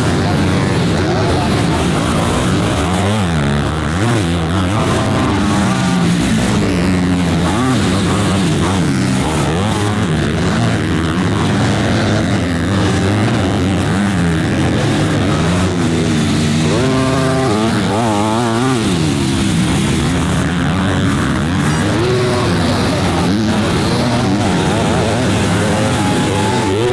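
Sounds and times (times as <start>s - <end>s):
motocross bike engines revving: 0.0s - 26.9s.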